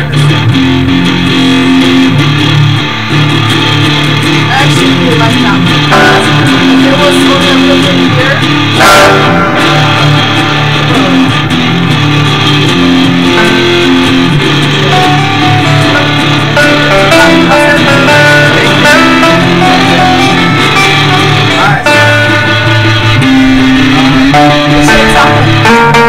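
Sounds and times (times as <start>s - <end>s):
acoustic guitar: 0.0s - 26.0s
electric guitar: 0.0s - 26.0s.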